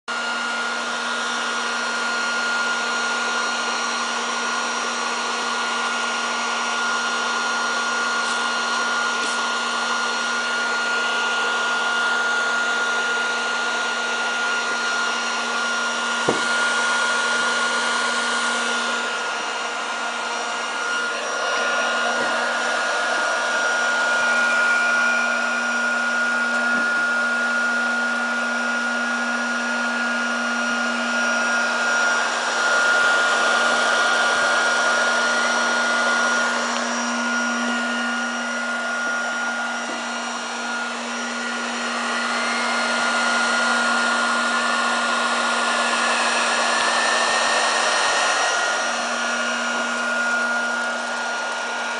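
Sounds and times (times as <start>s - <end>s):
hot-air blower hissing: 0.1s - 51.9s.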